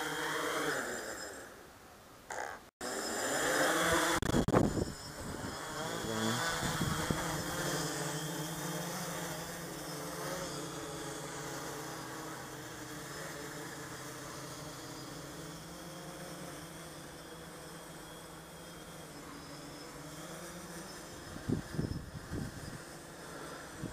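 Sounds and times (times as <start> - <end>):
quadcopter propellers buzzing: 0.0 - 1.7, 2.3 - 23.9.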